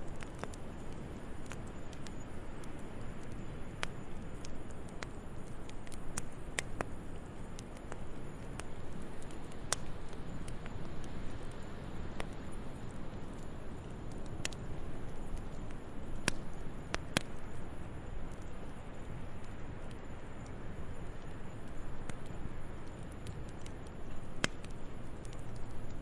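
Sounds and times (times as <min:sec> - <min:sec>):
sharp pops of fire: 0:00.0 - 0:26.0
wood fire crackling: 0:00.0 - 0:26.0.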